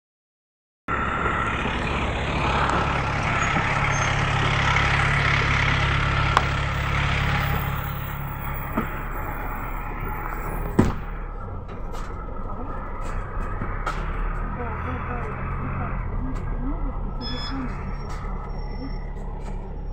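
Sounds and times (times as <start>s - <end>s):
engine idling rumble: 0.9s - 19.9s
street traffic: 0.9s - 19.9s.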